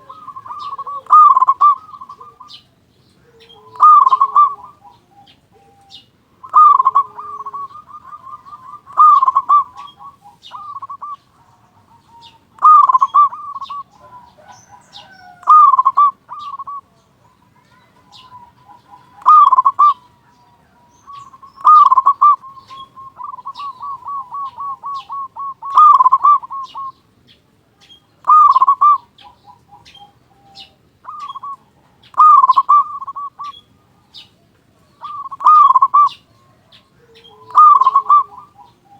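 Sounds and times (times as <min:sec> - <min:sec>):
dove cooing with rolling trill: 0:00.0 - 0:27.1, 0:27.8 - 0:38.9
faint high chirps: 0:00.0 - 0:38.9.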